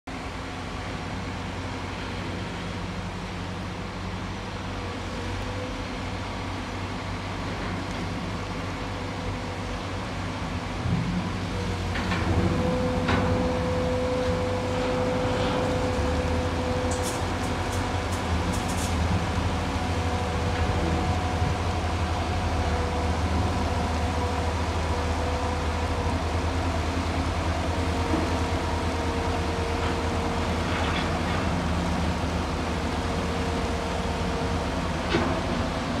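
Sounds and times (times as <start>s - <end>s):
diesel engine running under load: 0.1s - 36.0s.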